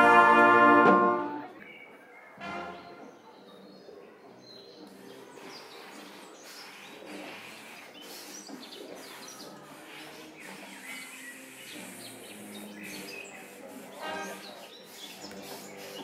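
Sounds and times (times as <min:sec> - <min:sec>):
low background murmur: 0:00.0 - 0:16.0
small birds chirping: 0:01.5 - 0:16.0.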